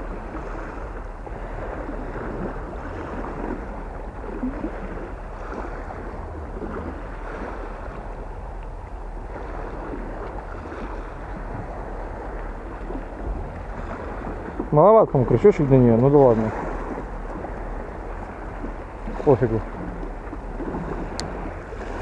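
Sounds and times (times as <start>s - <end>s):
small waves washing on shore: 0.0s - 22.0s
wind rumbling on microphone: 0.0s - 22.0s.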